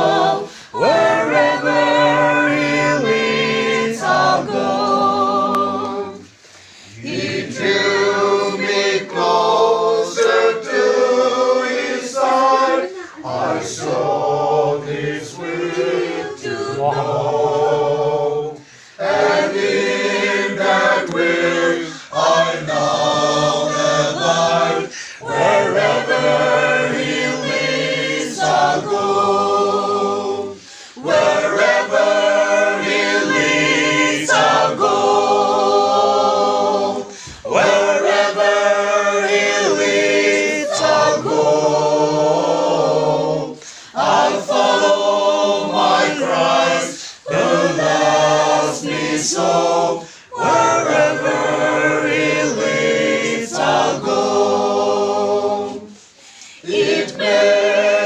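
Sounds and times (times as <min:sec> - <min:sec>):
group singing a hymn unaccompanied: 0:00.0 - 0:58.0.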